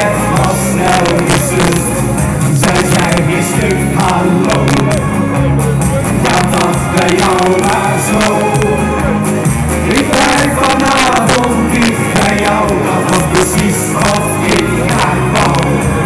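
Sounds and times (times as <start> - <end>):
man singing into a microphone: 0.0 - 16.0
party song over loudspeakers: 0.0 - 16.0
steady drum beat: 0.0 - 16.0.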